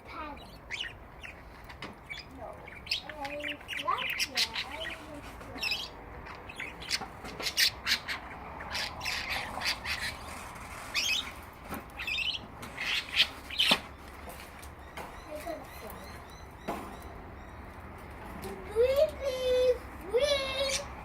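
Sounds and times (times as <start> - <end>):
budgerigars chattering: 0.1 - 17.8.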